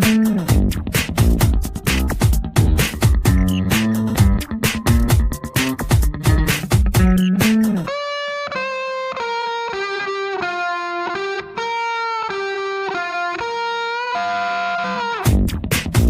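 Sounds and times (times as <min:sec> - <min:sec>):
electric guitar melody: 0:00.0 - 0:15.6
beat-driven music: 0:00.0 - 0:16.0.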